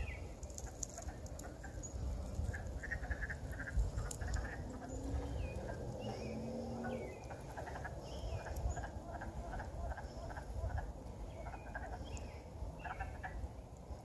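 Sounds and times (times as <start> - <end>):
frogs calling: 0.0 - 13.6
steady low rumble: 0.0 - 14.0.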